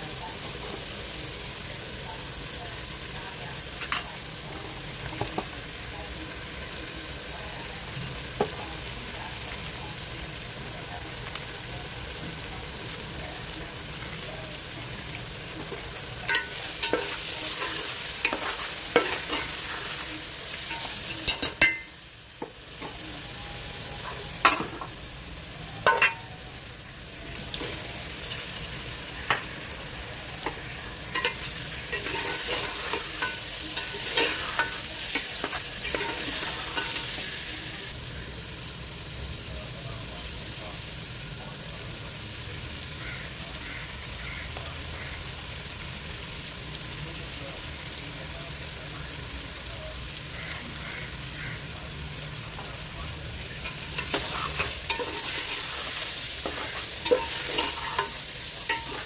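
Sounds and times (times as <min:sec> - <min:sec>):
food sizzling in oil: 0:00.0 - 0:59.0.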